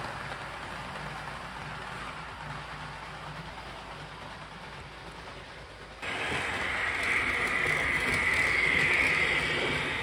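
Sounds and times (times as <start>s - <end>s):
model train running on metal track: 0.0s - 10.0s.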